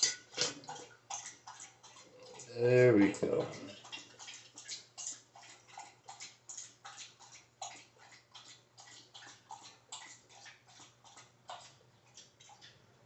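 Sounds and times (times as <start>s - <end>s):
liquid trickling from siphon tube: 0.0s - 12.8s
small splashes and drips: 0.0s - 13.0s.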